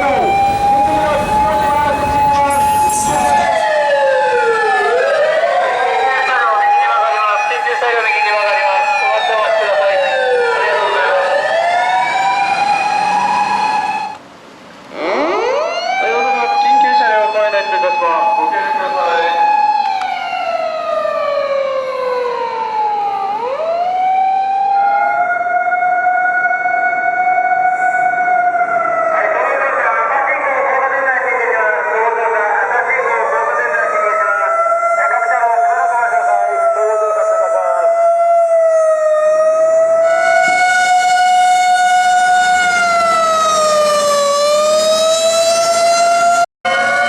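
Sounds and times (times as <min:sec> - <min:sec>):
emergency siren wailing: 0:00.0 - 0:14.2, 0:14.9 - 0:47.0.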